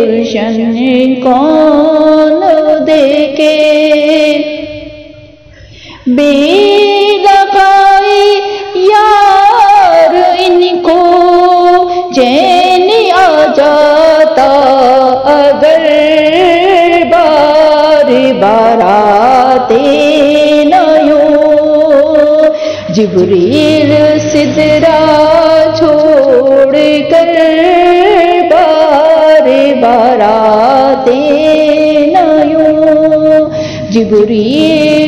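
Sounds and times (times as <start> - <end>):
woman singing: 0.0 - 5.2, 6.0 - 35.0.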